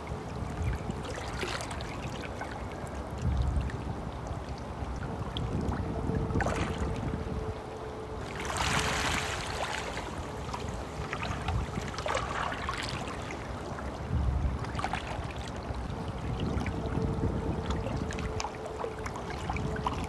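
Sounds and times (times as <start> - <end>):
stream flowing: 0.0 - 20.0
water splashing surges: 0.0 - 20.0.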